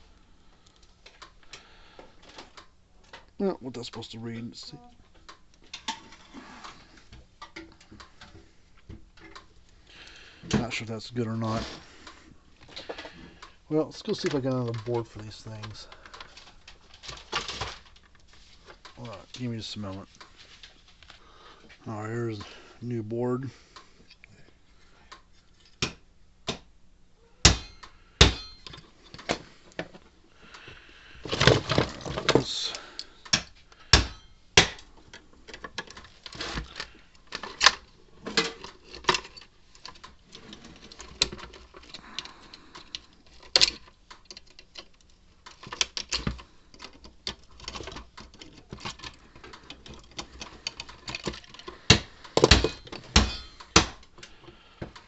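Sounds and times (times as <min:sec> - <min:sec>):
small parts and tools clicking: 0:00.0 - 0:10.6, 0:11.2 - 0:21.8, 0:27.4 - 0:55.0.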